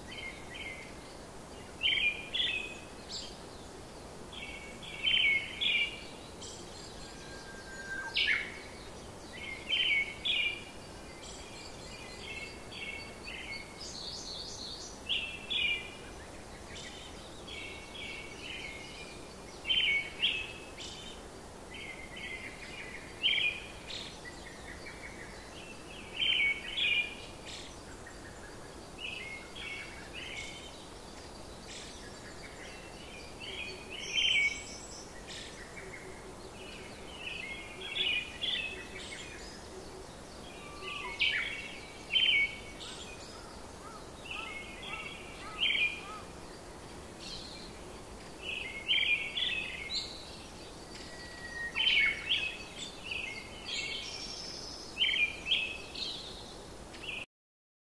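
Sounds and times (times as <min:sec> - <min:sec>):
faint steady hiss: 0:00.0 - 0:57.3
birds chirping: 0:00.1 - 0:57.3.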